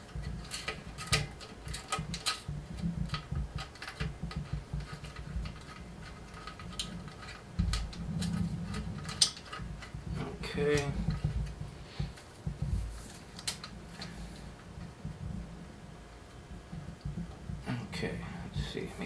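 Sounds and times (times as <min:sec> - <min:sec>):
low handling rumble: 0:00.0 - 0:19.0.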